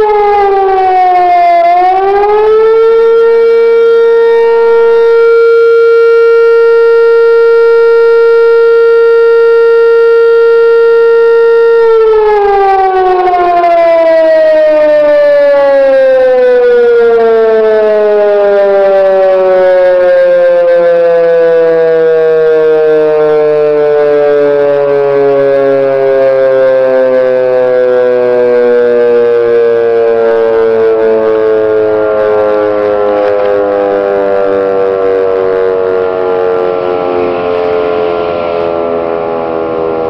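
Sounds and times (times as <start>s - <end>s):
tornado warning siren: 0.0s - 40.0s.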